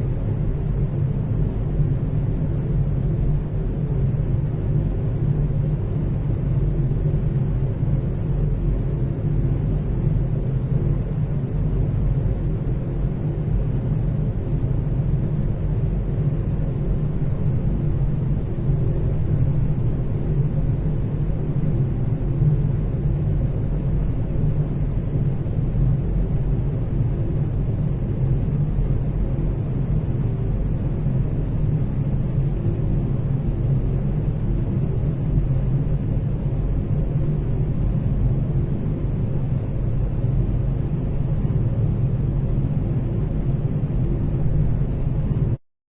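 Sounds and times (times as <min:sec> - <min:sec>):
faint hum: 0:00.0 - 0:45.6
ventilation rumble: 0:00.0 - 0:45.6.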